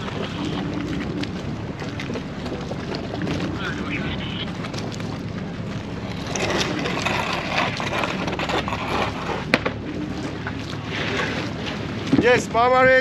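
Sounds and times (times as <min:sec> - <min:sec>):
boat engine rumbling: 0:00.0 - 0:13.0
hull noise: 0:00.0 - 0:13.0
wind: 0:00.0 - 0:13.0.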